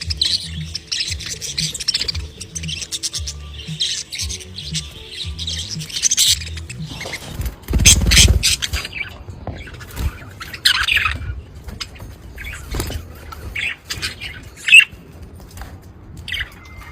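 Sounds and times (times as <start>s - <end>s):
budgerigars chirping and chattering: 0.0s - 15.6s, 16.2s - 16.9s.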